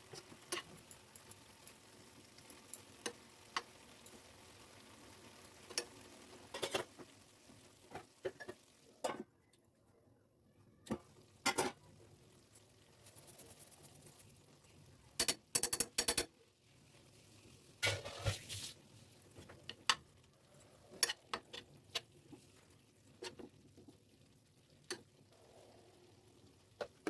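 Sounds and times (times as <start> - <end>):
faint frying sizzle: 0.0 - 9.2, 10.6 - 27.0.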